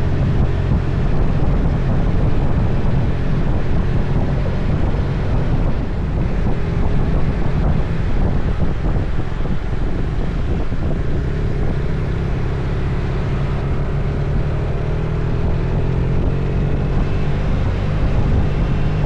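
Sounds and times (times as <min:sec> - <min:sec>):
motorcycle engine and road noise: 0:00.0 - 0:19.0
wind rushing over microphone: 0:00.0 - 0:19.0.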